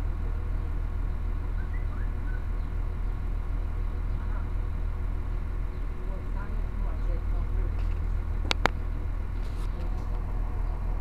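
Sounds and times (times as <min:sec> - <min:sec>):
standing train humming: 0:00.0 - 0:11.0.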